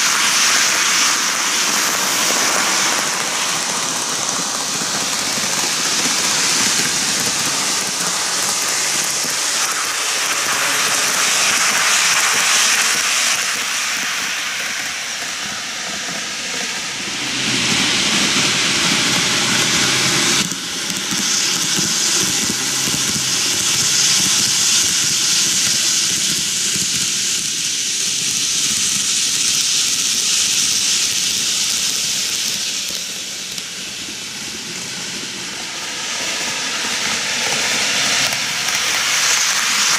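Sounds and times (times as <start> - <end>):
model train wheels and motors hissing: 0.0 - 39.9.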